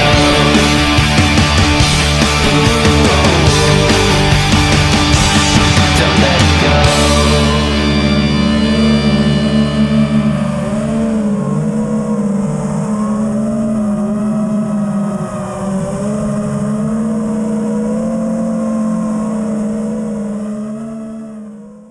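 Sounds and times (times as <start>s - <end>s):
drone motors buzzing: 0.0s - 21.9s.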